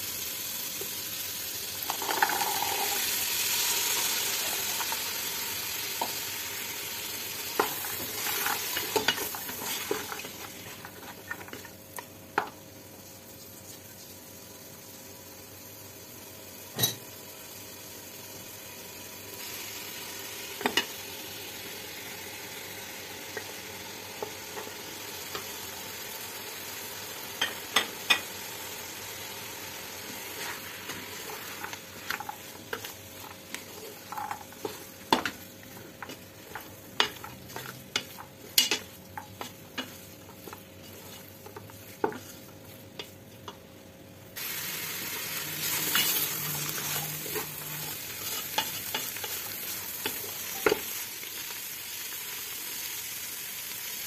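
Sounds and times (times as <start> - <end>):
food sizzling in pot: 0.0 - 54.0.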